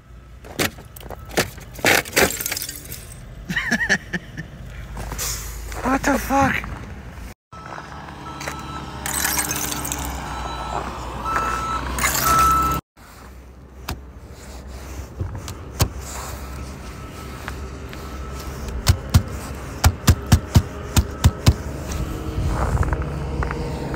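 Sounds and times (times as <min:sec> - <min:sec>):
vehicle engine rumbling: 0:00.0 - 0:23.9.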